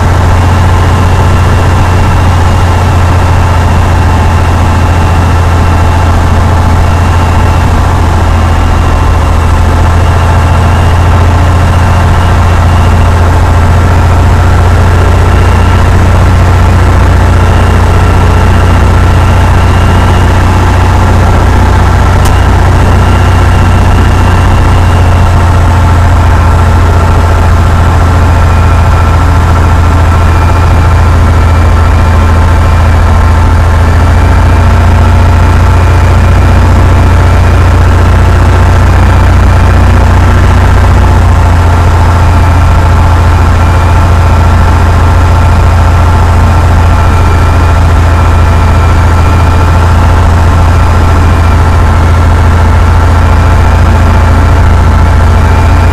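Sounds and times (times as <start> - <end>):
airplane piston engine droning: 0.0 - 55.9.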